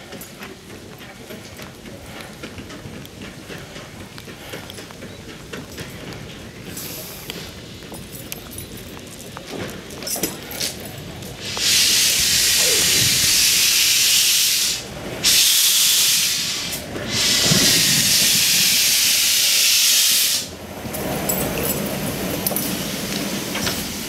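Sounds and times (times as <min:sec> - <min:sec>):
locomotive steam hissing: 0:00.0 - 0:24.0.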